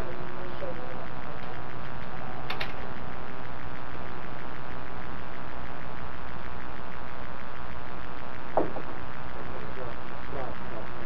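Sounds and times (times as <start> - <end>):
microphone hiss and hum: 0.0 - 11.0.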